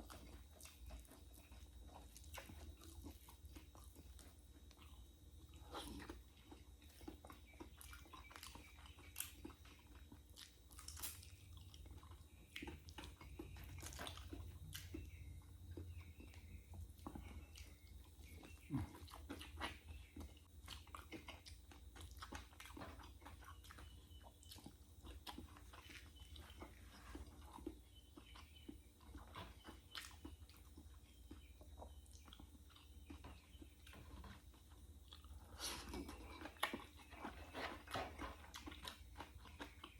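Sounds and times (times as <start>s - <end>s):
faint low hum: 0.0s - 39.9s
person chewing and crunching: 0.0s - 39.9s.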